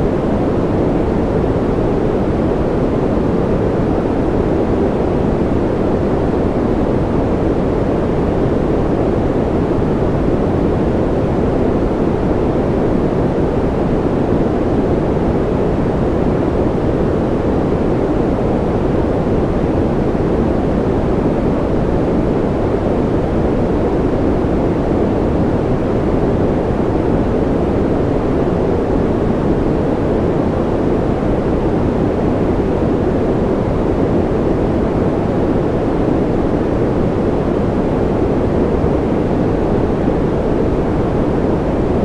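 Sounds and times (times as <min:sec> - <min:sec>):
deep white noise hiss: 0:00.0 - 0:42.0.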